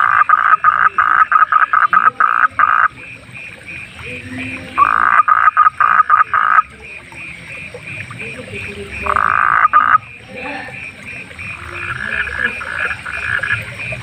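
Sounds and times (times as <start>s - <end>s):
frog calling: 0.0s - 14.0s.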